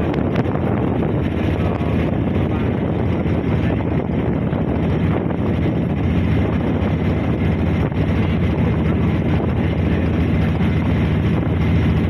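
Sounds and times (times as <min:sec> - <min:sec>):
motor boat engine droning: 0:00.0 - 0:12.0
water rushing past hull: 0:00.0 - 0:12.0
wind buffeting microphone: 0:00.0 - 0:12.0.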